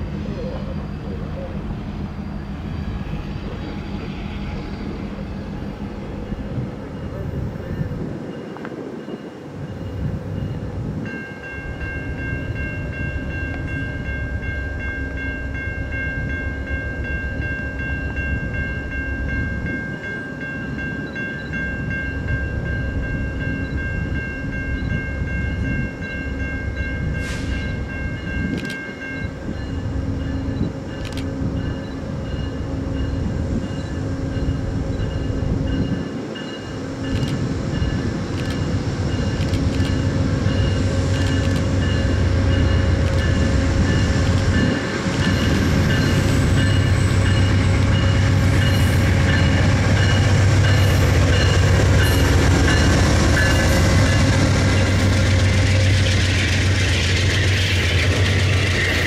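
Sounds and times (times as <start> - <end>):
train engine and wheels rumbling: 0.0 - 59.0.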